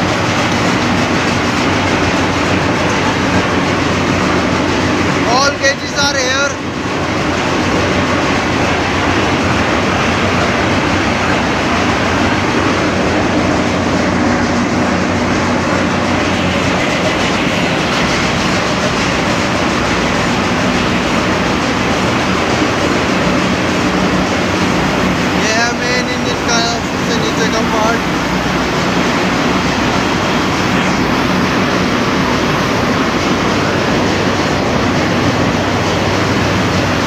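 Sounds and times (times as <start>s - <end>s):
low hum: 0.0s - 37.0s
marine diesel engines running: 0.0s - 37.0s.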